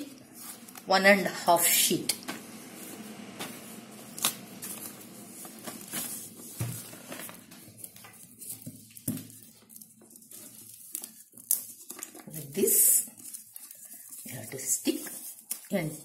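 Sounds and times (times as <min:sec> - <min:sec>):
paper sheets rustling: 0:00.0 - 0:00.9, 0:02.2 - 0:16.0.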